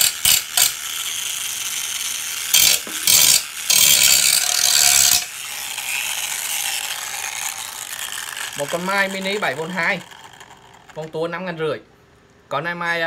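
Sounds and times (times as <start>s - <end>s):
cordless tool motor bursts: 0.0s - 11.3s.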